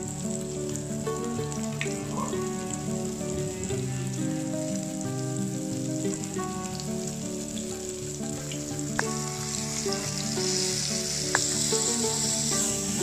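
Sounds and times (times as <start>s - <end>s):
background music: 0.0s - 13.0s
food sizzling in oil: 0.0s - 13.0s.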